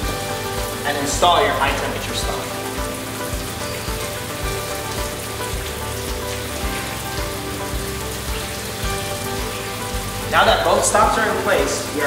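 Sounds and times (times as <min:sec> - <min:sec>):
background music with beat: 0:00.0 - 0:12.0
shower water running: 0:00.0 - 0:12.0.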